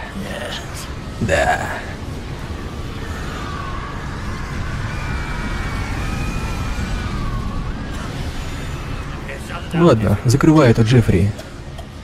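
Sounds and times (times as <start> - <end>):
faint emergency sirens wavering: 0.0 - 10.6.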